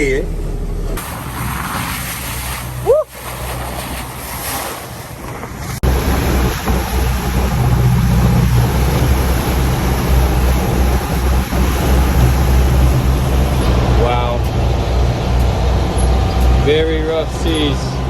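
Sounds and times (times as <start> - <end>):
yacht engines droning: 0.0 - 18.0
sea and wind rushing: 0.8 - 18.0.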